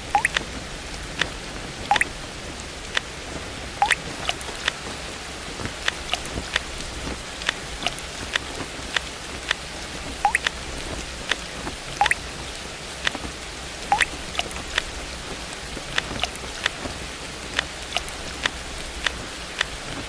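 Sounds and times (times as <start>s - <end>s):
large raindrops plinking: 0.0s - 20.0s
steady rain: 0.0s - 20.0s.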